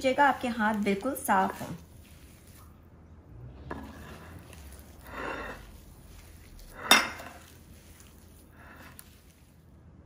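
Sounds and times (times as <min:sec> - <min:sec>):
hands squishing mashed potato: 0:00.0 - 0:09.8.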